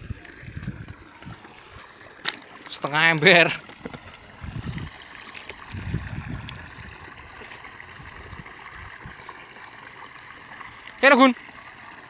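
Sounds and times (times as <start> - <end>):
trickling water hiss: 0.0 - 12.0.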